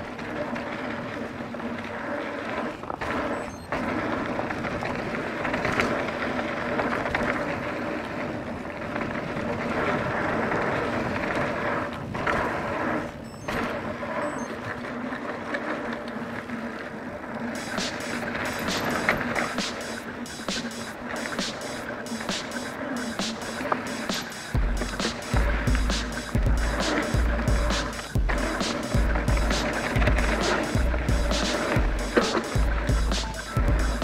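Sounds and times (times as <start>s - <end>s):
bike tyres rolling on dirt trail: 0.0s - 34.0s.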